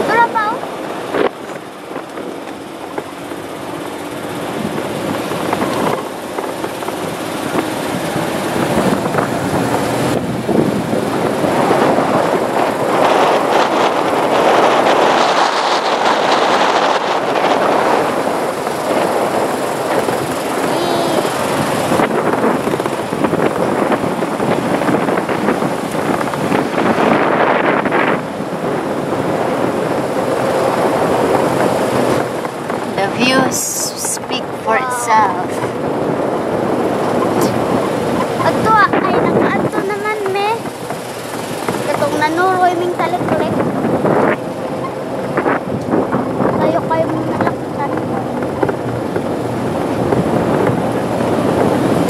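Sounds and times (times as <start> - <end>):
vehicle engine and road noise: 0.0 - 52.0
wind rushing over microphone: 0.0 - 52.0.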